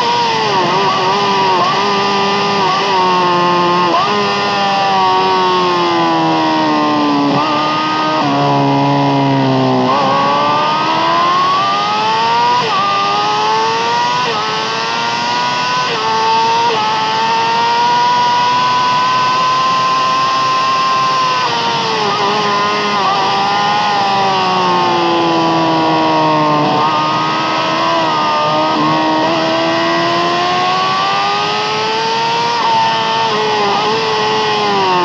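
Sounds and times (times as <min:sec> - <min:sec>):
motorcycle engine at high revs: 0:00.0 - 0:35.0.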